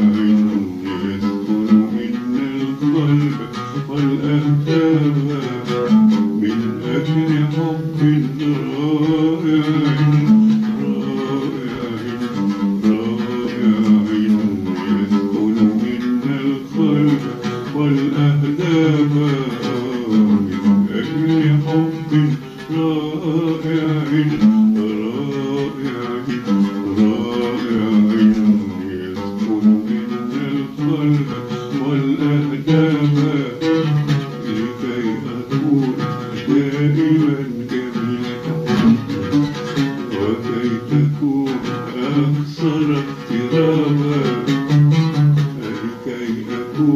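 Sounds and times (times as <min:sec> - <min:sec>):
oud melody: 0:00.0 - 0:46.9.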